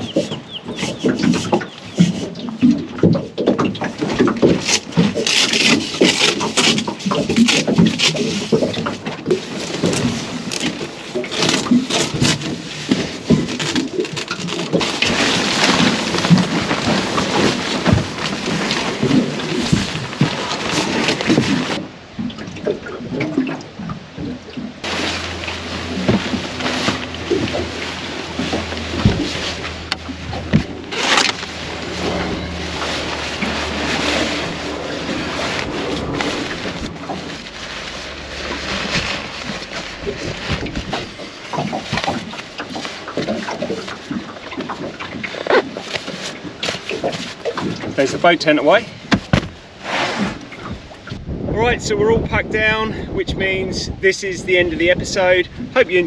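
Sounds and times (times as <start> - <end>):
knocks and rustles of gear: 0.0 - 21.8, 24.8 - 50.9
water around a boat: 0.0 - 56.0
wind: 0.0 - 56.0.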